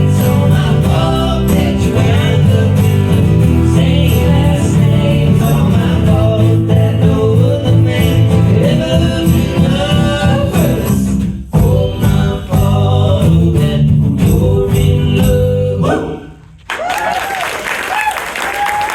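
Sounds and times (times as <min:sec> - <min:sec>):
live country band playing: 0:00.0 - 0:15.8.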